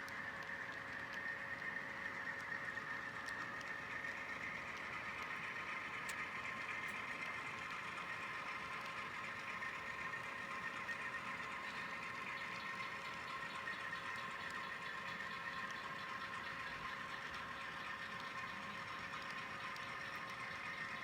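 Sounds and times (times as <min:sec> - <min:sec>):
faint clicks from rolling train: 0:00.0 - 0:21.0
diesel engine sound: 0:00.2 - 0:21.0.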